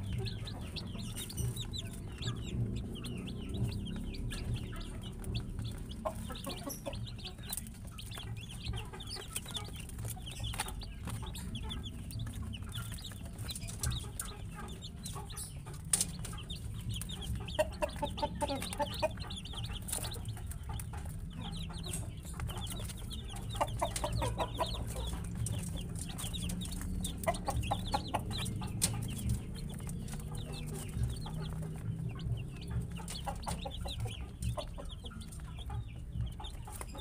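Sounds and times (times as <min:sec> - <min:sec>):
baby chicks peeping: 0:00.0 - 0:37.0.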